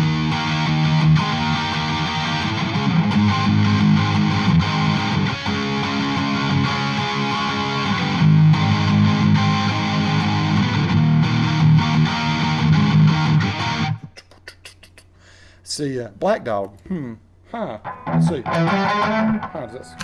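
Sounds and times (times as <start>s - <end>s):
overdriven electric guitar strumming: 0.0s - 14.1s, 17.8s - 20.0s.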